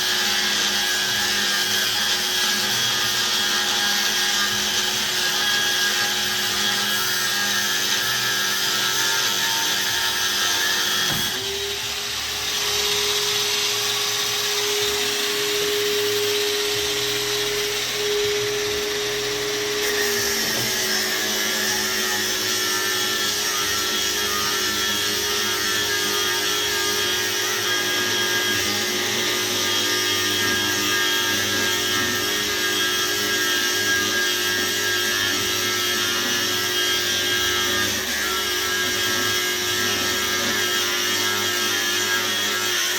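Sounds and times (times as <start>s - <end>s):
angle grinder whining: 0.0s - 42.9s.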